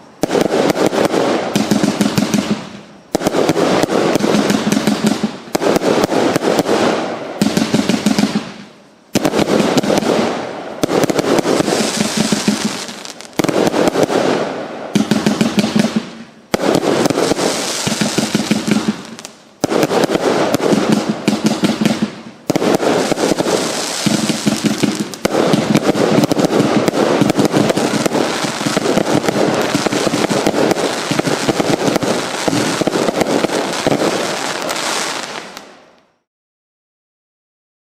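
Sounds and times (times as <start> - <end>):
fireworks shots and crackling: 0.0 - 36.2.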